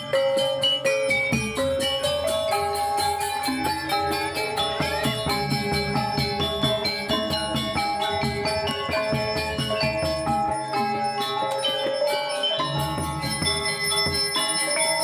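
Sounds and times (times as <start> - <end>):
gamelan metallophones playing: 0.0 - 15.0.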